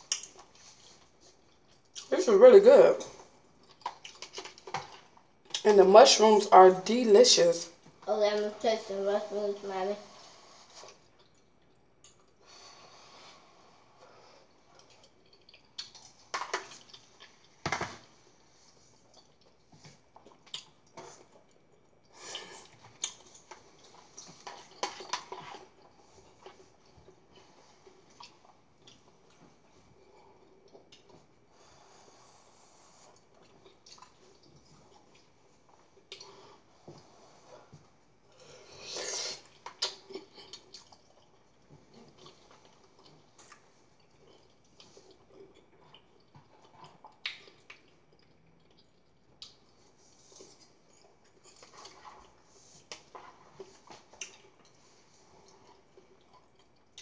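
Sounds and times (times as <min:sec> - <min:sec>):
quiet chewing: 0:00.0 - 0:02.1, 0:03.0 - 0:05.7, 0:07.7 - 0:57.0.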